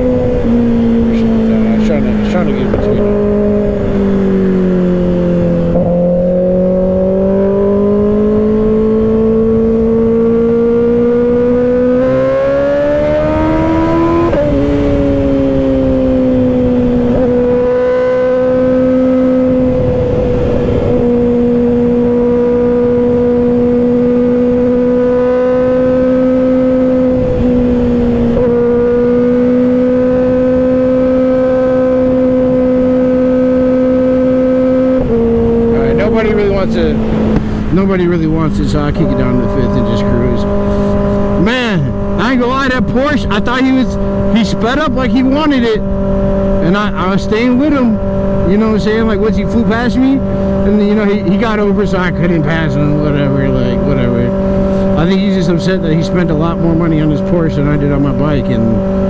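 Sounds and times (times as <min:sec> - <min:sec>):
wind rush: 0:00.0 - 0:23.6, 0:26.9 - 0:55.2
motorcycle engine accelerating: 0:00.0 - 0:59.0.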